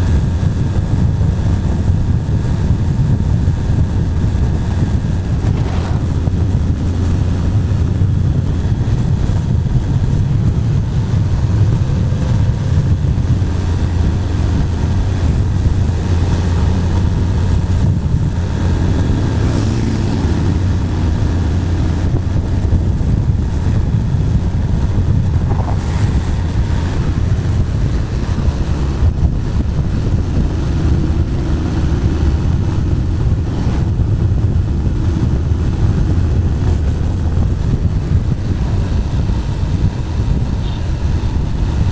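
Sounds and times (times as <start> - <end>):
motorcycle engine cruising: 0.0 - 41.9
wind rush on microphone: 0.0 - 41.9.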